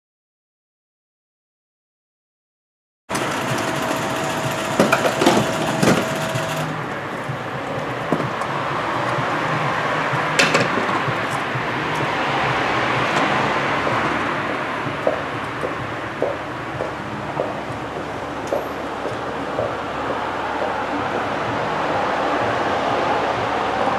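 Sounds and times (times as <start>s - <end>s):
steady mechanical whir: 3.1s - 23.9s.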